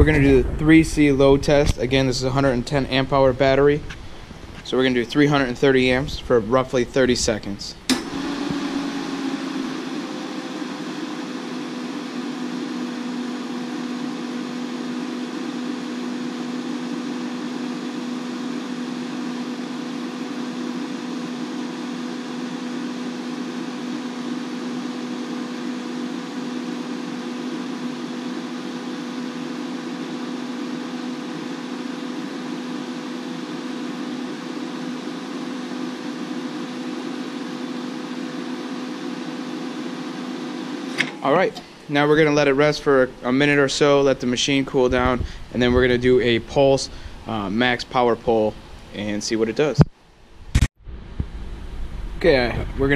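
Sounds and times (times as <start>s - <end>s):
steady low hum: 0.0s - 35.4s, 38.9s - 52.9s
cooling fan whirring: 0.0s - 52.9s.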